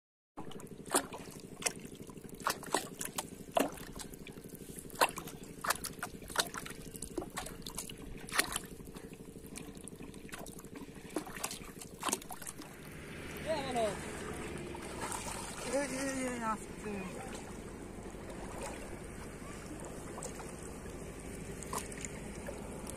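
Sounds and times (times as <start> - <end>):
pond water splashing: 0.4 - 22.9.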